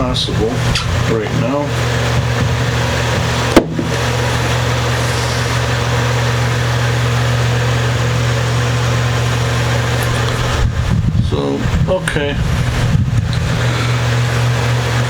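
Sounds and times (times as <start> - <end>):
low machine hum with hiss: 0.0 - 15.0.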